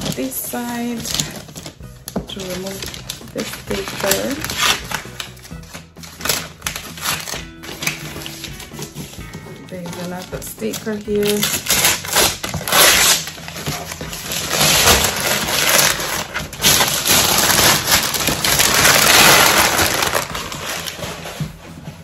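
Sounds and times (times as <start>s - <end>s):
wrapping paper crinkling: 0.0s - 22.0s.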